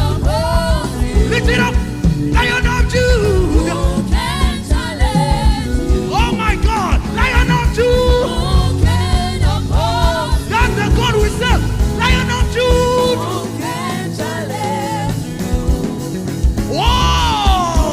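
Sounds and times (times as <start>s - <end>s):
band playing a steady beat: 0.0s - 17.9s
person singing: 0.0s - 17.9s.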